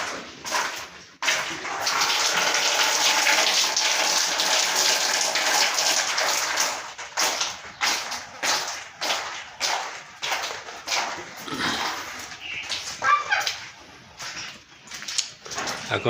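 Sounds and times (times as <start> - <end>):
water gushing and splashing: 0.0 - 14.4.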